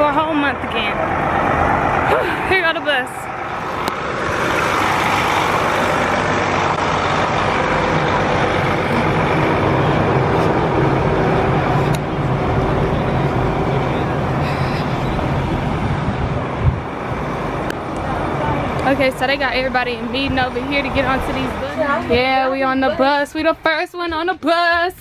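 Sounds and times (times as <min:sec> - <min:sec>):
bus diesel engine droning: 0:00.0 - 0:25.0
road noise: 0:00.0 - 0:25.0.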